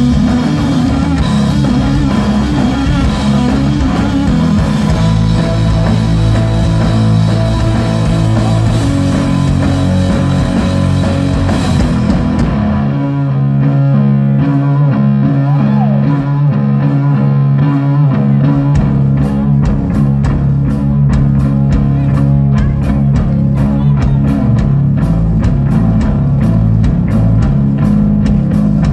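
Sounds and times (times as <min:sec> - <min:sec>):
bass guitar: 0:00.0 - 0:28.9
drums: 0:00.0 - 0:28.9
electric guitar: 0:00.0 - 0:28.9.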